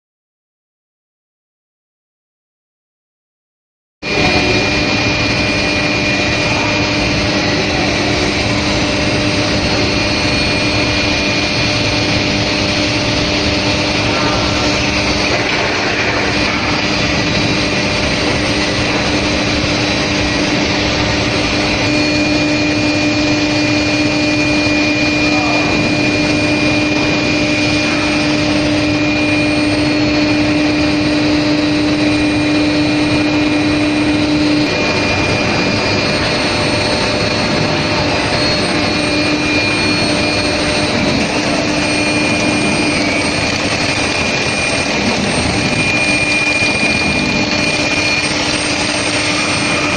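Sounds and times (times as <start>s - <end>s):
high machine whine: 4.0s - 49.9s
loud rushing machine noise: 4.0s - 49.9s
steady machine hum: 4.0s - 49.9s.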